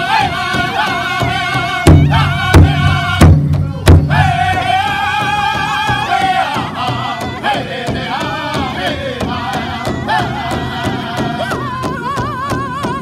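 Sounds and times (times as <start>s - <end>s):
group singing in unison: 0.0s - 13.0s
large hide drum beating: 0.0s - 13.0s.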